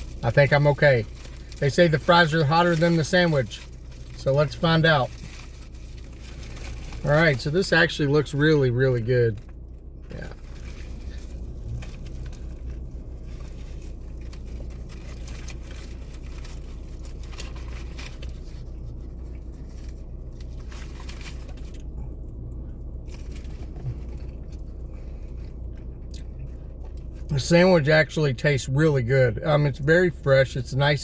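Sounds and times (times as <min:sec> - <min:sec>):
chewing crispy food: 0:00.0 - 0:27.4
low hum inside car: 0:00.0 - 0:31.0.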